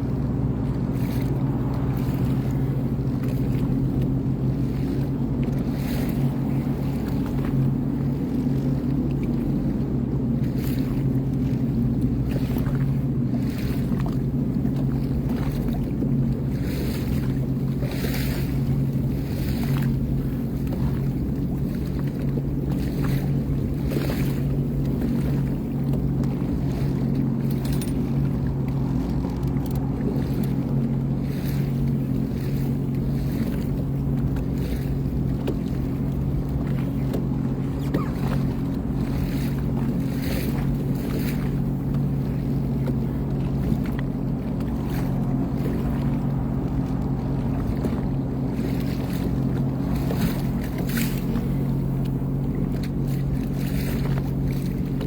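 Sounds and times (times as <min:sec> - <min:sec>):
water and wind swishes: 0:00.0 - 0:55.0
watercraft engine droning: 0:00.0 - 0:55.0.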